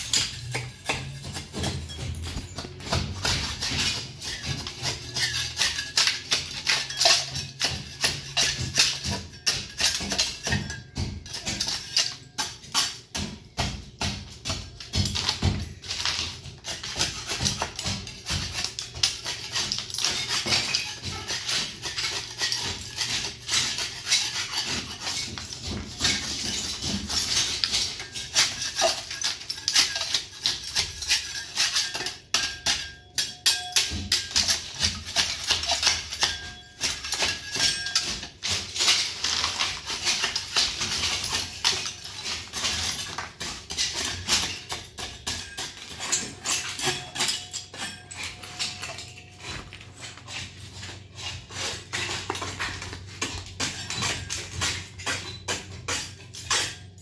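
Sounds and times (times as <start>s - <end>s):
hand scraper scraping plaster: 0.0s - 10.7s, 15.8s - 32.8s, 33.8s - 48.0s, 48.9s - 56.8s.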